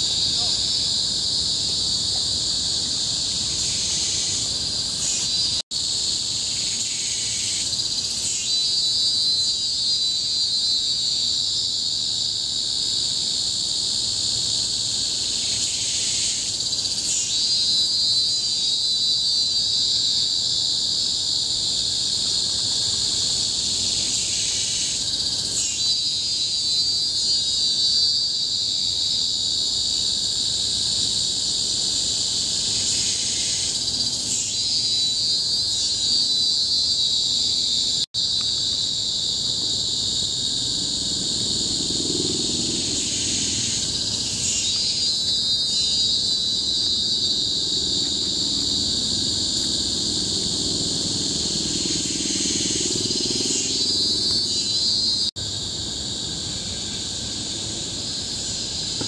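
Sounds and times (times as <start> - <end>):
shrill cicada chorus: 0.0 - 59.0
stronger cicada call: 0.0 - 59.0.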